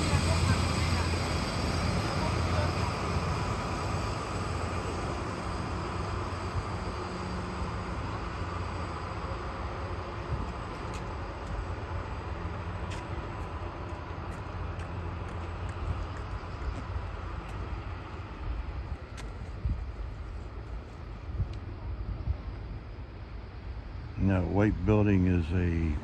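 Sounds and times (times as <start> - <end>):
locomotive engine humming: 0.0 - 26.0.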